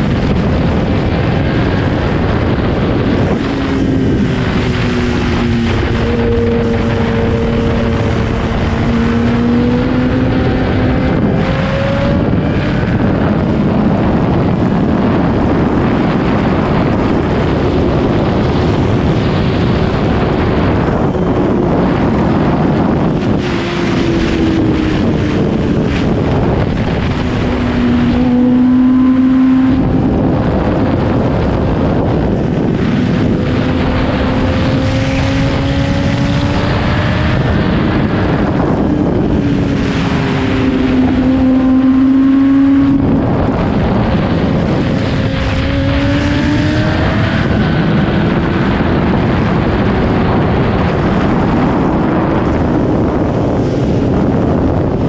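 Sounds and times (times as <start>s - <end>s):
motorcycle engine at speed: 0.0s - 55.0s
wind rush on microphone: 0.0s - 55.0s.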